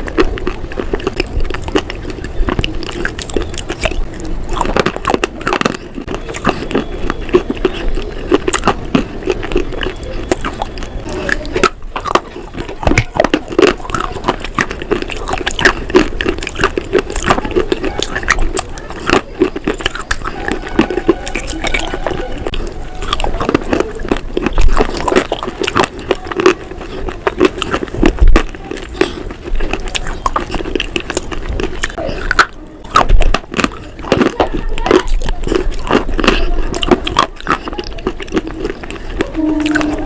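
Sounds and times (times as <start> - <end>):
biting and chewing: 0.0 - 40.0.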